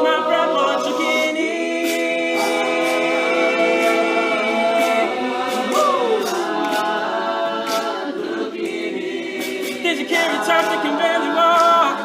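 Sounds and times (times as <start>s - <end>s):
male a cappella group singing: 0.0s - 12.0s.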